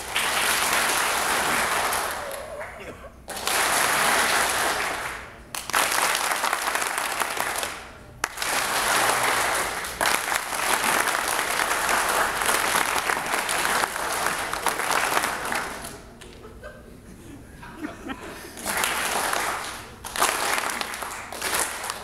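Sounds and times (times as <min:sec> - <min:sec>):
audience applause: 0:00.0 - 0:02.7, 0:03.3 - 0:16.1, 0:18.5 - 0:22.0.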